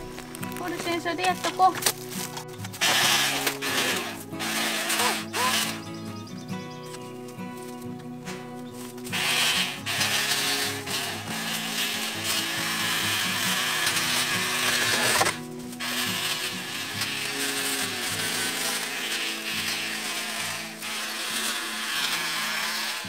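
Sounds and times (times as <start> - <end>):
background music: 0.0 - 23.0
electric pole cutter whining: 1.3 - 6.3, 8.8 - 23.0.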